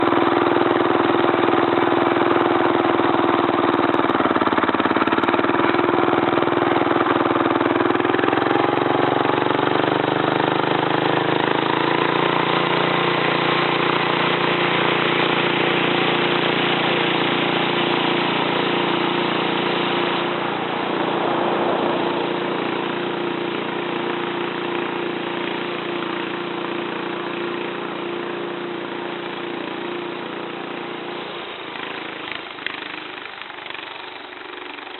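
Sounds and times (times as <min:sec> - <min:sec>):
single-cylinder engine running: 0:00.0 - 0:34.9.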